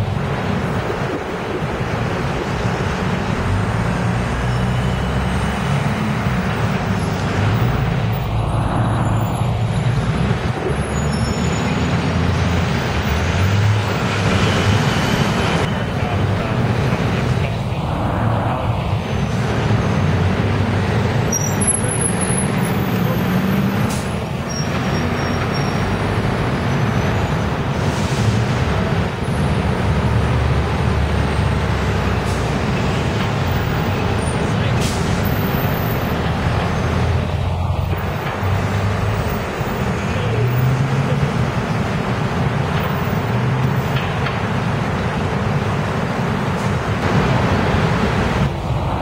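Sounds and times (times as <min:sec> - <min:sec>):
diesel bus engine rumble: 0:00.0 - 0:49.0.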